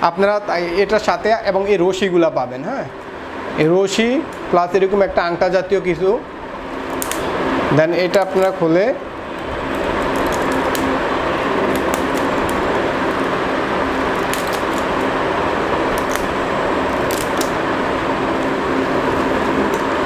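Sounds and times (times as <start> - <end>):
fan noise with low hum: 0.0 - 20.0.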